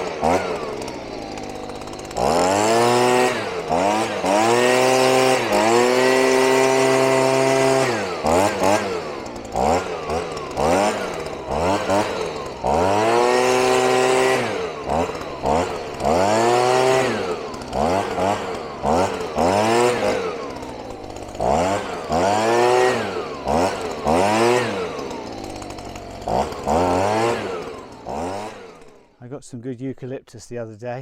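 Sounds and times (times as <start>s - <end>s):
chainsaw at full throttle: 0.0s - 29.2s.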